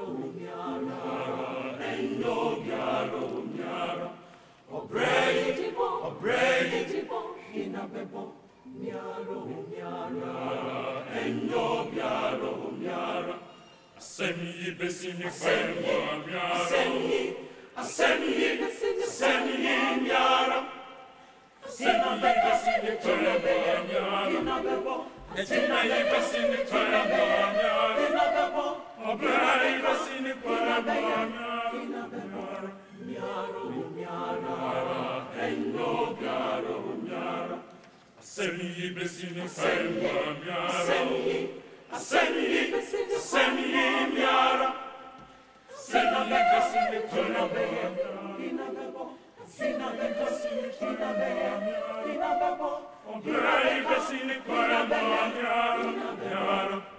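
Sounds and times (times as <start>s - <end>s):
choir singing a chant: 0.0s - 56.9s.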